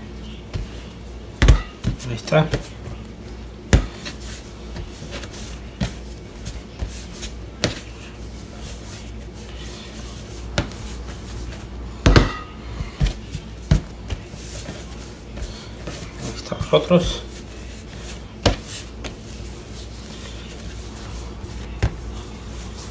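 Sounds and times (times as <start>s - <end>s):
steady low hum: 0.0s - 22.9s
soft knocks of dough shaping: 0.4s - 22.9s.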